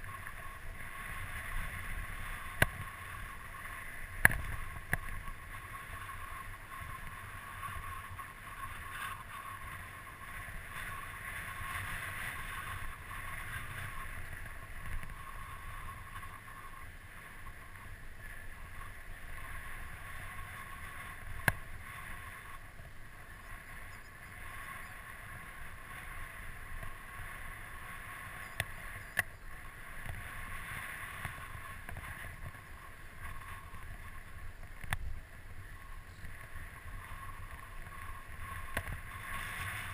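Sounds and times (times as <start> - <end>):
bike tyres rolling on dirt: 0.0 - 39.9
wind rumble: 0.0 - 39.9.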